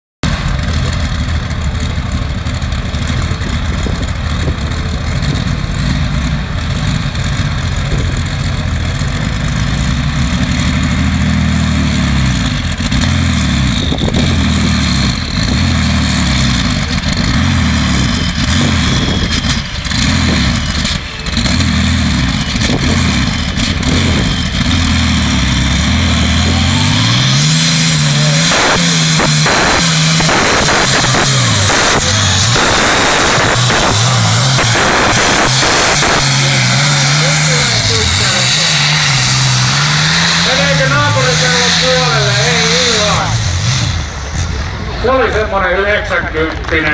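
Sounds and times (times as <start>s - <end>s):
tractor engine revving under load: 0.2s - 46.2s.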